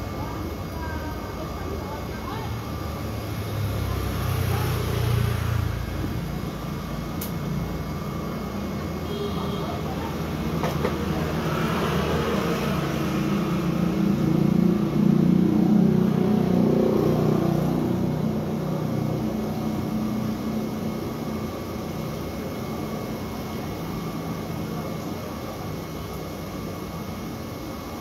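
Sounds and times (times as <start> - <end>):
street noise: 0.0 - 28.0.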